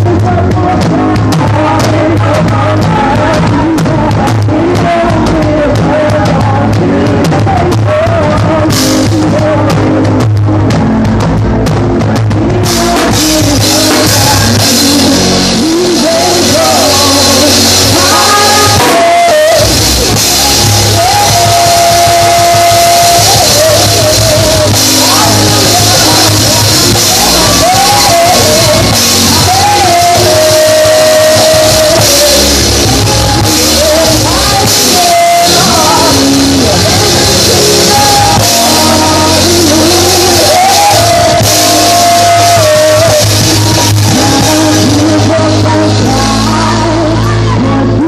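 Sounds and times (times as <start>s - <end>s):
drum kit: 0.0s - 48.0s
live band music: 0.0s - 48.0s
person singing: 0.0s - 48.0s.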